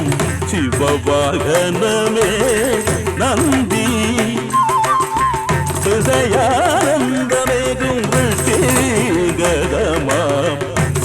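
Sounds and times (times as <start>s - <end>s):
man singing ornamented melody: 0.0s - 11.0s
instrumental accompaniment: 1.5s - 11.0s.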